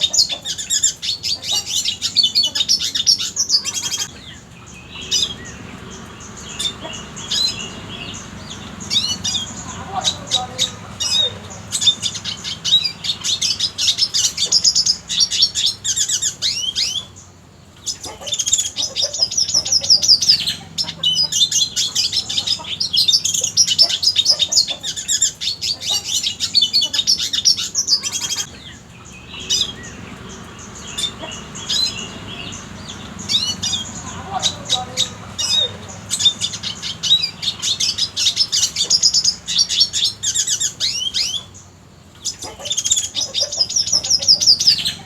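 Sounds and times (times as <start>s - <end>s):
bird twittering song: 0.0s - 45.0s.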